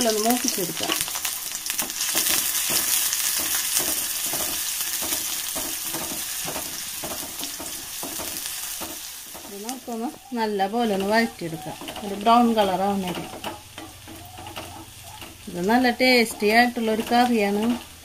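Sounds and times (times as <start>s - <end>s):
shallots sizzling in hot oil: 0.0s - 18.0s
wooden spatula stirring: 1.0s - 18.0s.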